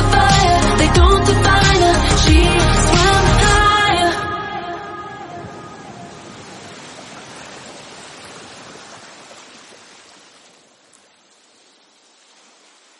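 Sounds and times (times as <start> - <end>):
ocean surf waves: 0.0 - 12.9.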